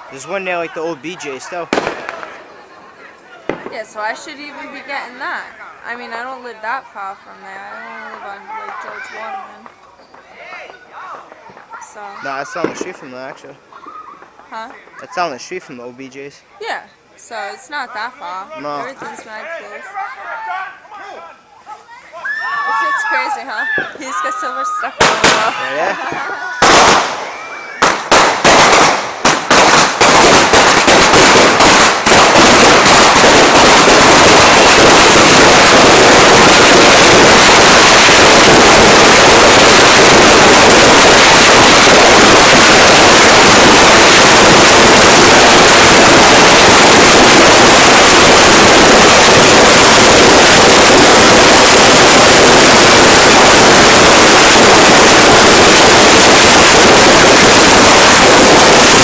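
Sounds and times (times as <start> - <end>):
fireworks explosions: 0.0 - 19.6, 22.7 - 59.0.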